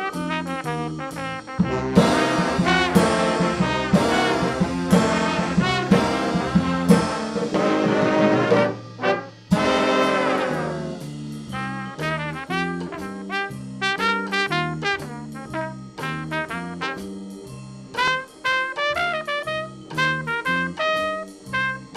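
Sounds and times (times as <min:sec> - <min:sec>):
band playing with brass: 0:00.0 - 0:17.4, 0:18.0 - 0:21.9.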